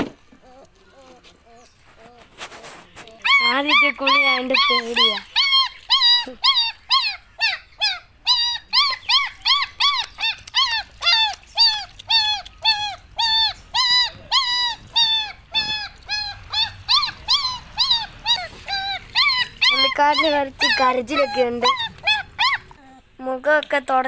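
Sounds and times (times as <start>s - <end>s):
young pet crying: 3.0s - 23.2s.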